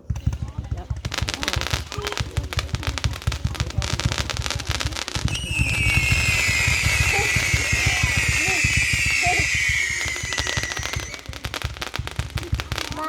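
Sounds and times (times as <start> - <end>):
fireworks firing rapid shots: 0.0 - 13.0
fireworks whistling falling in pitch: 0.0 - 13.0.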